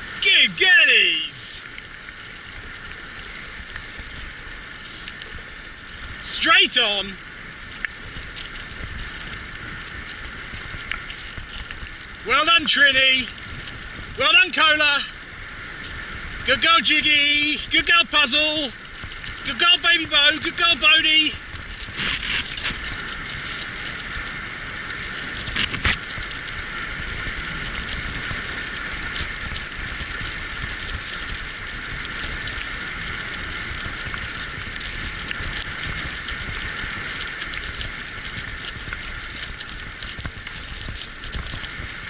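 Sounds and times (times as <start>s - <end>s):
wheeled rig rattling over trail: 0.0s - 42.0s.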